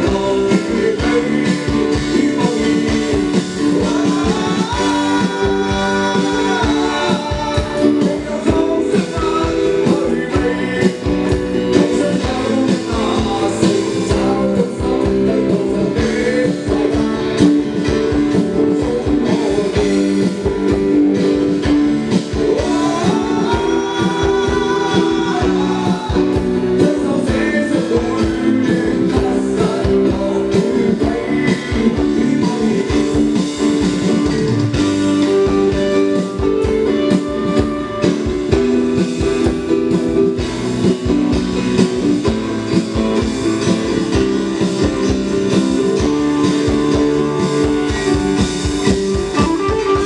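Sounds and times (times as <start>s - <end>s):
person singing: 0.0s - 21.4s, 22.1s - 40.2s, 42.3s - 50.0s
drums beating: 0.0s - 50.0s
live rock band playing: 0.0s - 50.0s.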